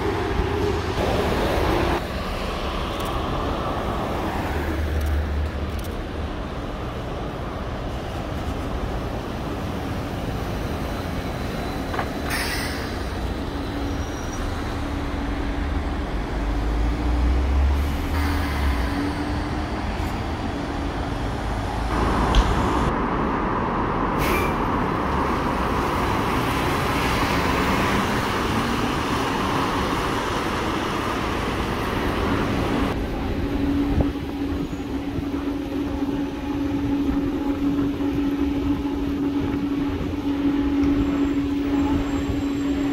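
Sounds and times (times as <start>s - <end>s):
road noise: 0.0s - 42.9s
trolleybus electric hum: 0.0s - 42.9s.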